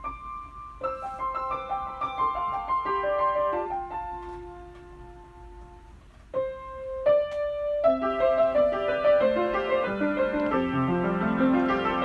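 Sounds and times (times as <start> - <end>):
solo piano: 0.0 - 12.0.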